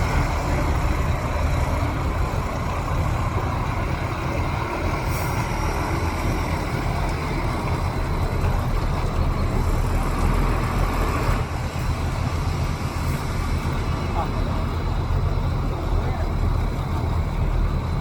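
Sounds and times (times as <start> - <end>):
heavy diesel engine rumbling: 0.0 - 18.0.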